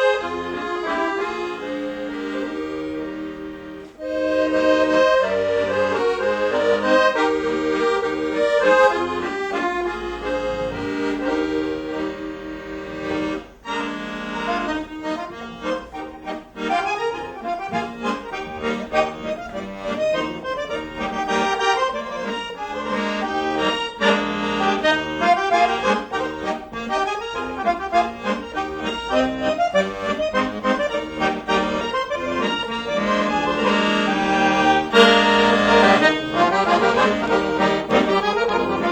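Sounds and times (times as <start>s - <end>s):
accordion playing a tune: 0.0s - 38.9s.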